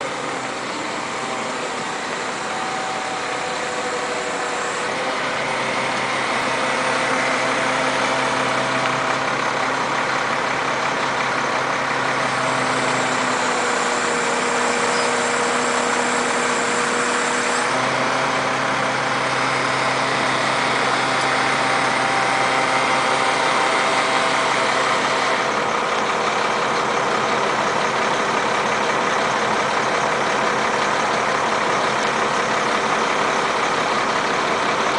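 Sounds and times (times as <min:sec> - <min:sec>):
crane engine running: 0:00.0 - 0:34.9.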